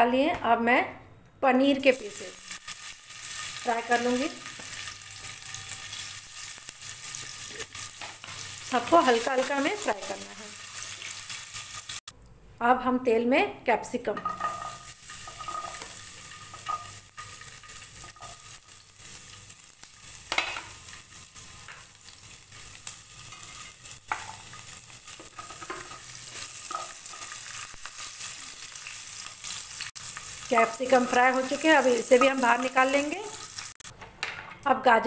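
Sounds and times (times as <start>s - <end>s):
vegetables sizzling in oil: 1.7s - 12.1s, 14.2s - 33.9s.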